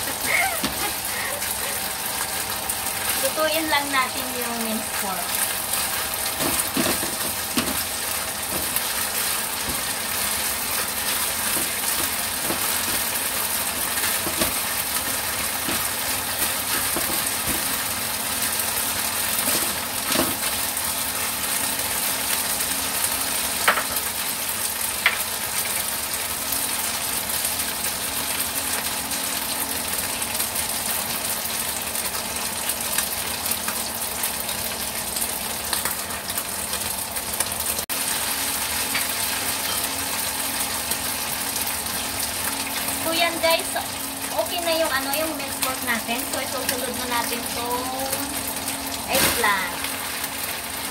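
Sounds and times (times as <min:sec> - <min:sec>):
meat sizzling in hot oil: 0:00.0 - 0:50.9.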